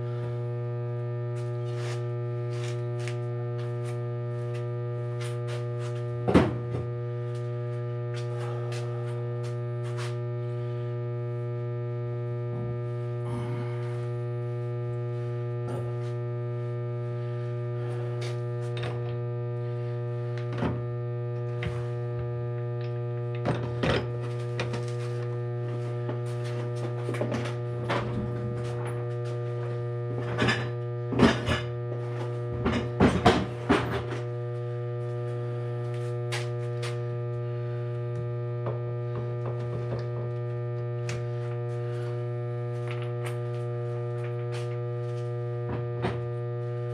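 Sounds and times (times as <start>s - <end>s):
electrical hum: 0.0s - 46.9s.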